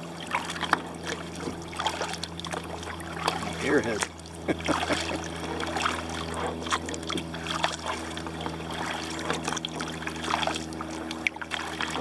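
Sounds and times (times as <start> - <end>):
paddle splashing water: 0.0 - 12.0
steady low hum: 0.0 - 12.0.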